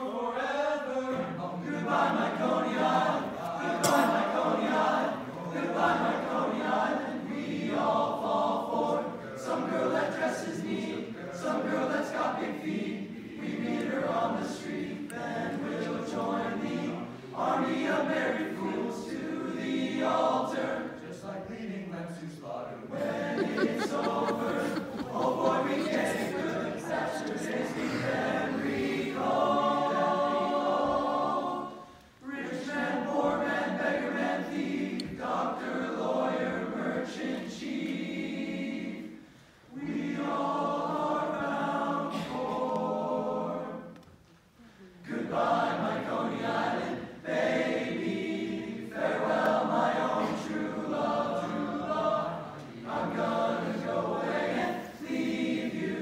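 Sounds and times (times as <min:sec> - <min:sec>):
boys' choir singing in harmony: 0:00.0 - 0:44.0, 0:45.0 - 0:56.0.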